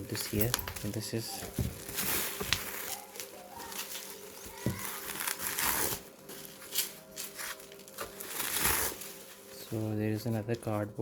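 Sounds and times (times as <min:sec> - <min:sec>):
packaging crinkling: 0:00.0 - 0:10.8.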